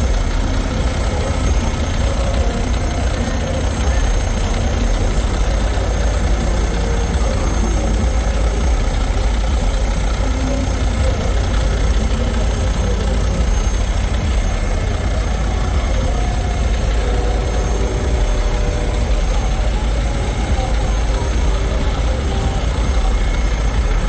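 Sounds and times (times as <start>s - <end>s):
truck engines idling: 0.0s - 24.0s.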